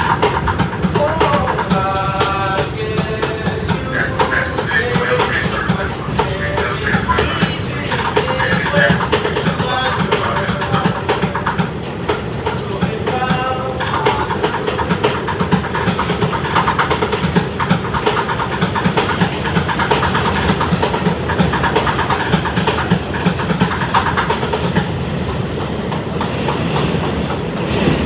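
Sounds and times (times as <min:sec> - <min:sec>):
subway car rumble: 0:00.0 - 0:28.0
wheels clacking over rail joints: 0:00.0 - 0:28.0.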